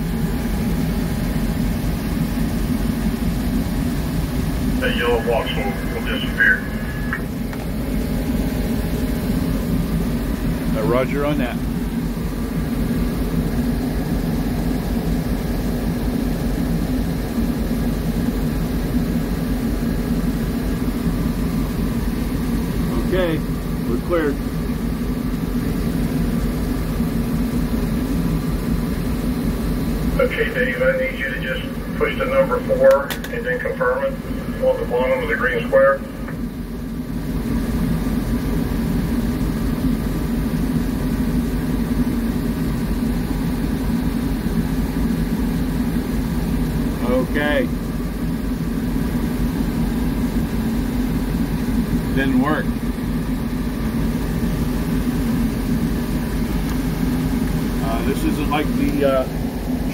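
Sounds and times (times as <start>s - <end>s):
diesel locomotive engine idling: 0.0s - 59.9s.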